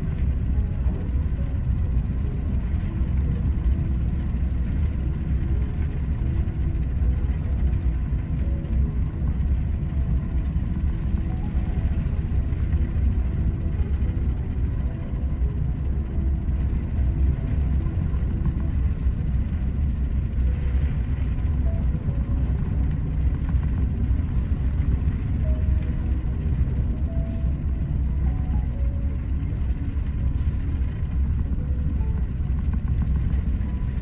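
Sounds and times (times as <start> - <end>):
low rumble of ship at sea: 0.0 - 34.0.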